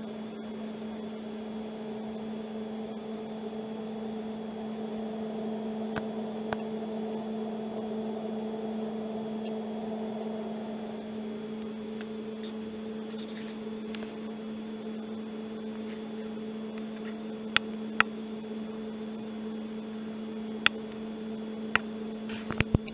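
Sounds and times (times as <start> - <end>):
electrical hum: 0.0 - 22.9.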